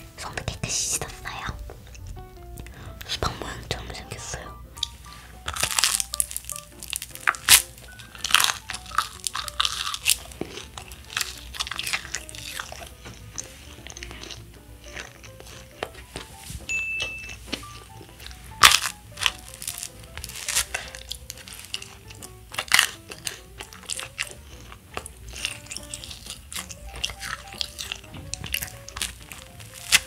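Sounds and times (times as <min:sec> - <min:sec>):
light background music: 0:00.0 - 0:30.0
chewing and wet mouth sounds: 0:01.0 - 0:16.4, 0:17.0 - 0:30.0.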